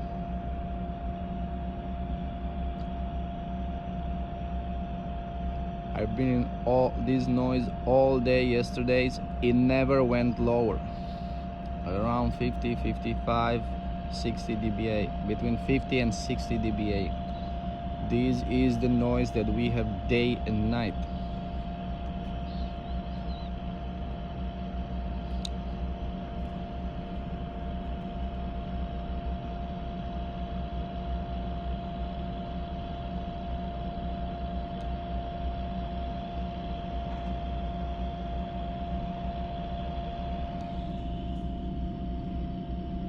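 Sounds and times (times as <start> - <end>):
constant hum tone: 0.0 - 43.0
drilling rig machinery drone: 0.0 - 43.0.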